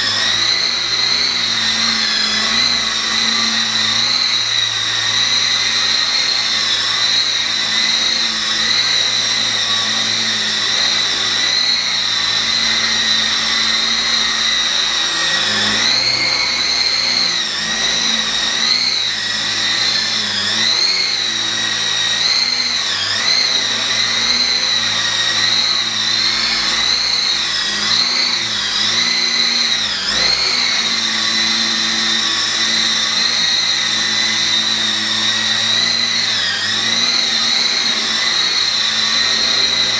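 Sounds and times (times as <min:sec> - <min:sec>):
toy helicopter motors whining: 0:00.0 - 0:39.9.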